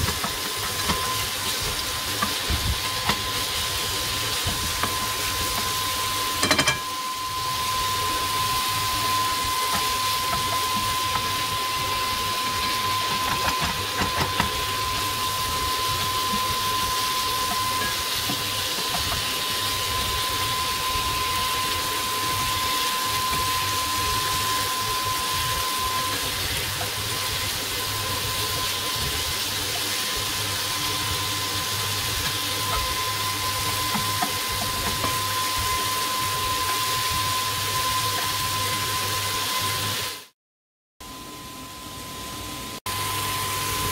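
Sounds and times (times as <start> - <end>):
chicken and onion sizzling in a pan: 0.0 - 40.3, 41.1 - 43.9
thin steady whine: 0.0 - 40.3.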